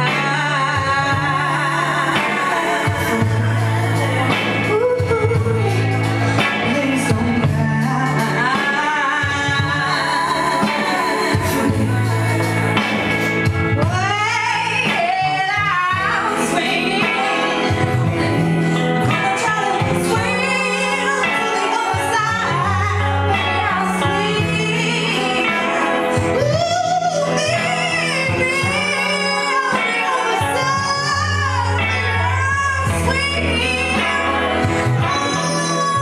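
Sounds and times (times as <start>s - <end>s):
live band playing: 0.0s - 36.0s
low bass notes: 0.0s - 36.0s
woman singing into microphone: 0.0s - 36.0s.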